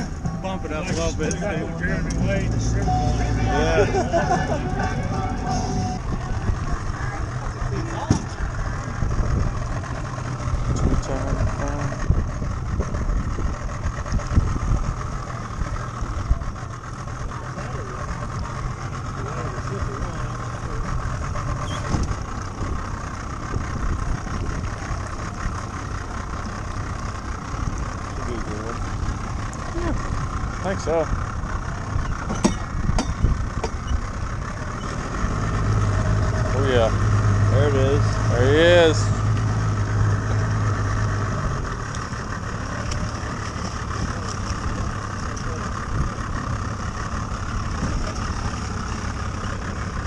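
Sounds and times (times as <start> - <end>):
boat motor idling: 0.0 - 50.0.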